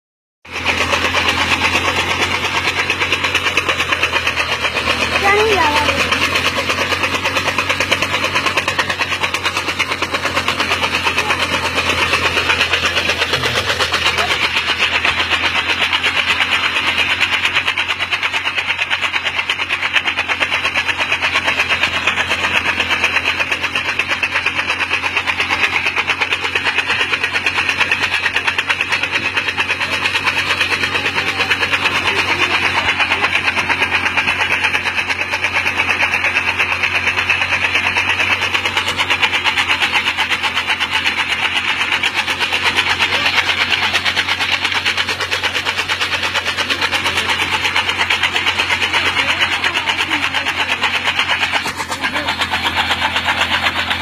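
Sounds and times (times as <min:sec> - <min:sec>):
chaff cutter chopping fodder: 0:00.4 - 0:54.0
small motorcycle engine running: 0:00.4 - 0:54.0.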